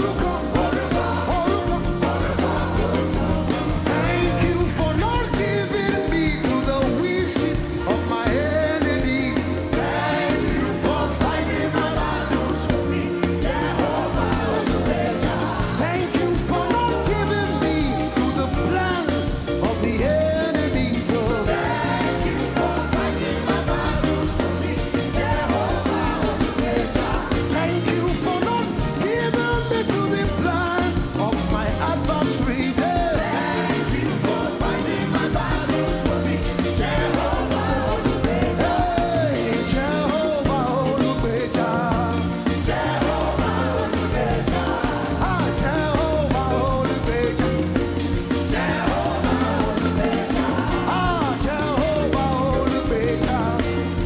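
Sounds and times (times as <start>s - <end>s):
band with steady bass line: 0.0s - 54.0s
voices singing gospel: 0.0s - 54.0s.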